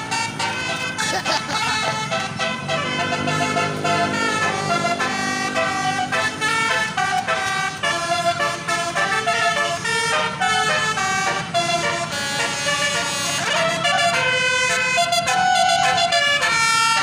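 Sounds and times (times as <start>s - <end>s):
musical bus horn melody: 0.0s - 17.0s.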